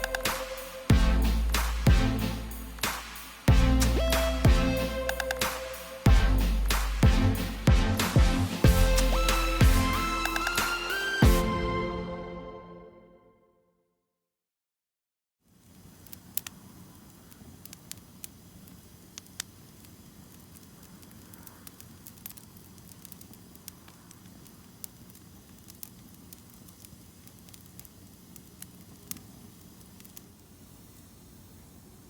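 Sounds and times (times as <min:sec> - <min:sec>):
campfire crackling and popping: 0:00.0 - 0:11.0, 0:15.6 - 0:32.0.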